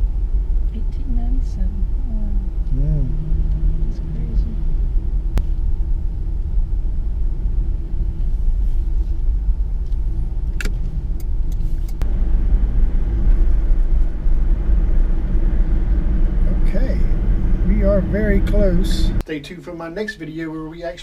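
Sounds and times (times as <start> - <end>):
vehicle road and engine rumble: 0.0 - 21.0.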